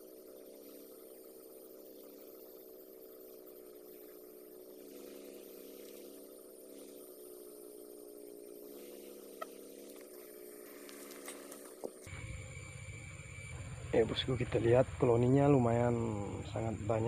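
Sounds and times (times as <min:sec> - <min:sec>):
low wavering hum: 0:00.0 - 0:17.0.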